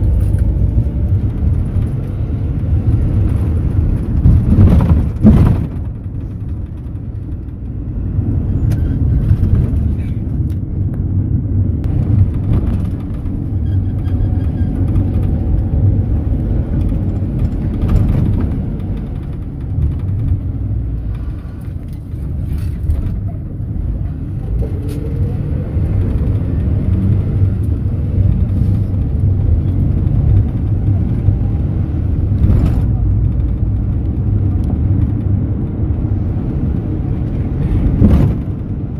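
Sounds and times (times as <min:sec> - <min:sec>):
engine and road rumble: 0:00.0 - 0:38.9.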